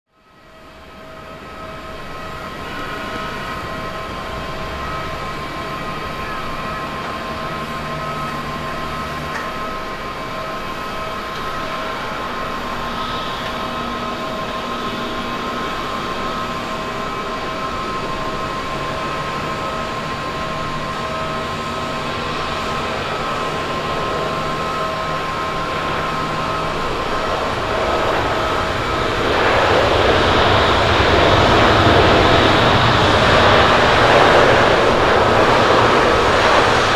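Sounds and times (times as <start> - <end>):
jet engine whine and rumble: 0.1 - 36.9.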